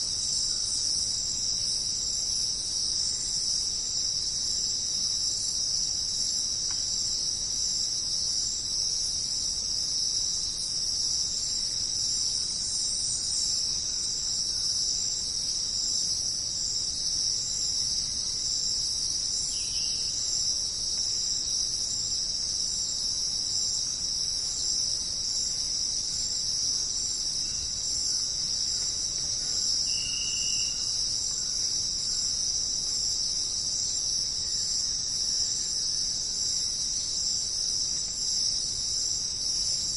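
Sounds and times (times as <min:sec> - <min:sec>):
insects buzzing drone: 0:00.0 - 0:39.9.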